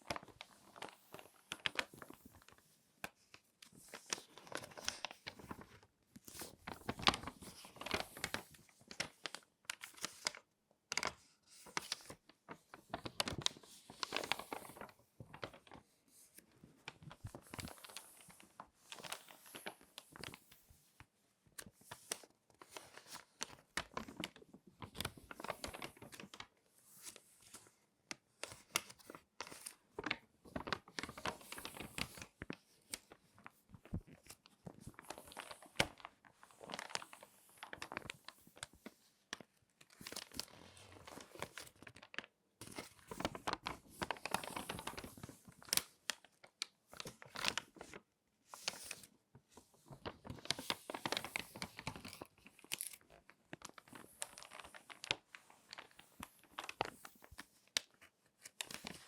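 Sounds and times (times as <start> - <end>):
magazine pages crinkling: 0.0 - 20.5, 21.6 - 27.6, 28.4 - 59.0.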